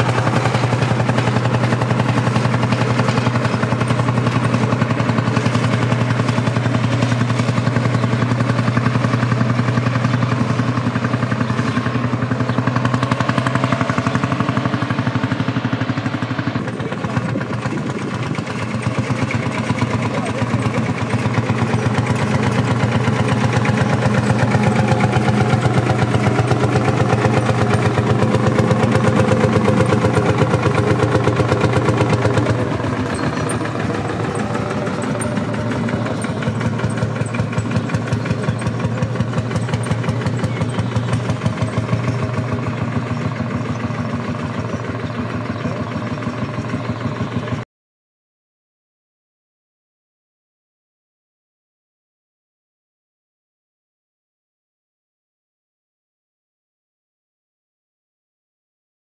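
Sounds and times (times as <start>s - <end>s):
tractor diesel engine: 0.0s - 47.7s.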